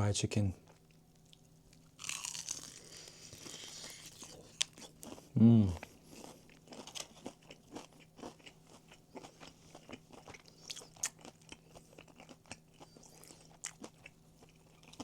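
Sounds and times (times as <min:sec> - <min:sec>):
faint steady hum: 0:00.0 - 0:15.0
crunching fried chicken: 0:00.7 - 0:15.0.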